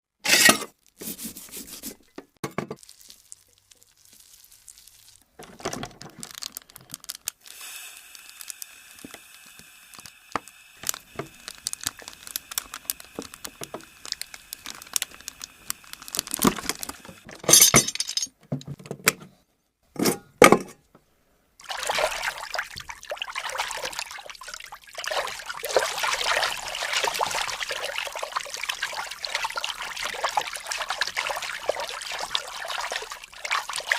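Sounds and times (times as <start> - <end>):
liquid pouring: 2.8 - 18.3, 21.6 - 33.9.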